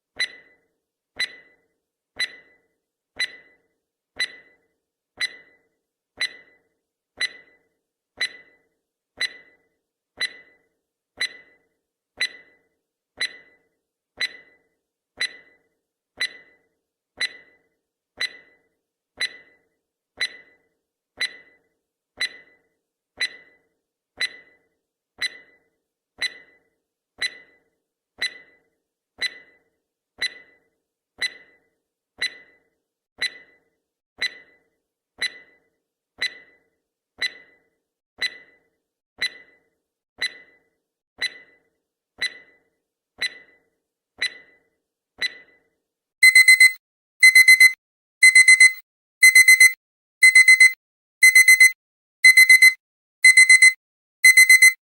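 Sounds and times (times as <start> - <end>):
timer ticking with ringing tone: 0.0 - 54.8.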